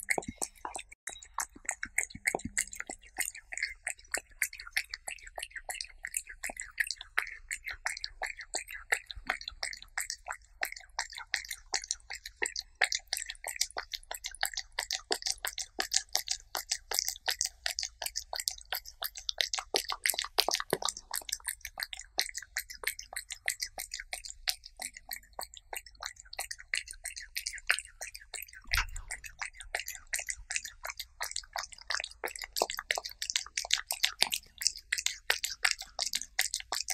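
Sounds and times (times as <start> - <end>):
cat licking and chewing: 0.0 - 36.9.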